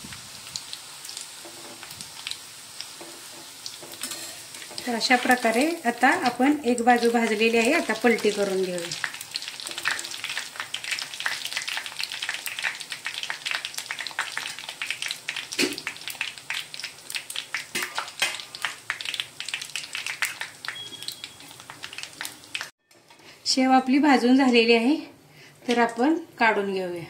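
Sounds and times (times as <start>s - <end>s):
food sizzling in hot oil: 0.0s - 22.8s.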